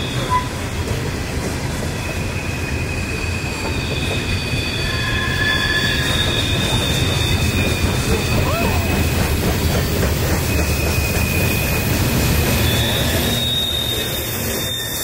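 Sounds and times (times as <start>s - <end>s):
train wheels rumbling on rails: 0.0s - 15.0s
wheels squealing on rail: 0.0s - 15.0s.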